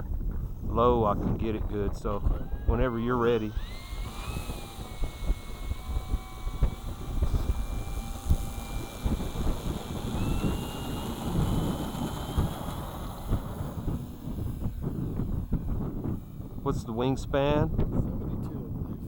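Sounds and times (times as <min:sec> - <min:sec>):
wind buffeting microphone: 0:00.0 - 0:19.0
electric motor and propeller whine: 0:00.2 - 0:19.0.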